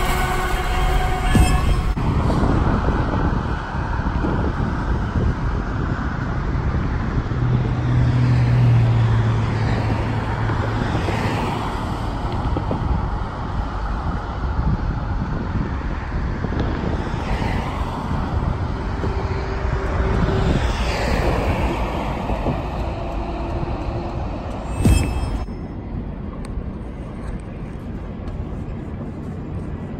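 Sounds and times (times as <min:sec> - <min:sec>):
road traffic passing: 0:00.0 - 0:29.9.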